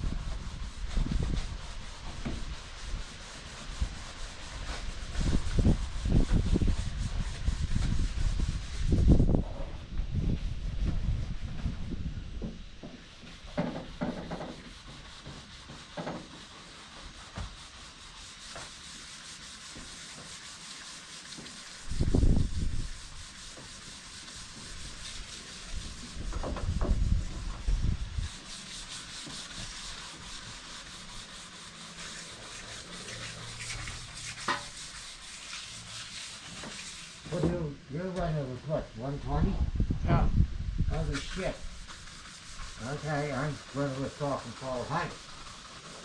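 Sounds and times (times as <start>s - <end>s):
sandpaper rubbing: 0.0s - 12.1s, 13.0s - 37.5s, 40.9s - 46.0s.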